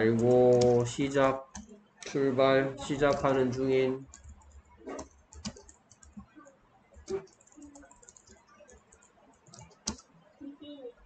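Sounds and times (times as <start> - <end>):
computer keyboard typing: 0.0 - 10.1.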